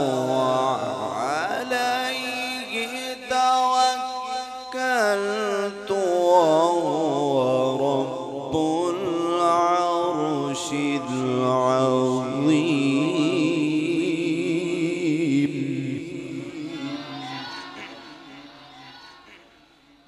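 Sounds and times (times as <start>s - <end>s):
man reciting in song: 0.0s - 19.6s.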